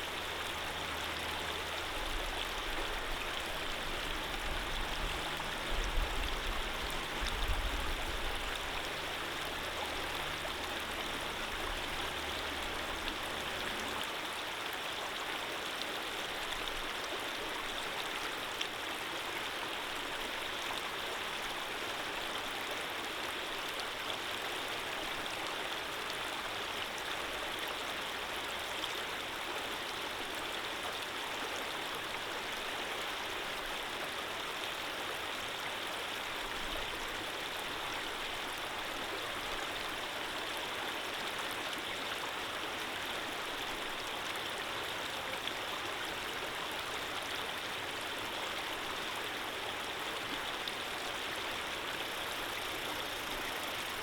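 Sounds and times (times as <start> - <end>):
flowing stream: 0.0 - 54.0.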